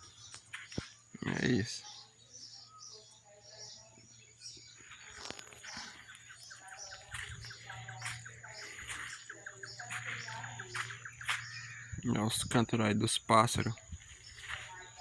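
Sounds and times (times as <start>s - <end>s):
wild birds singing and chirping: 0.0s - 15.0s.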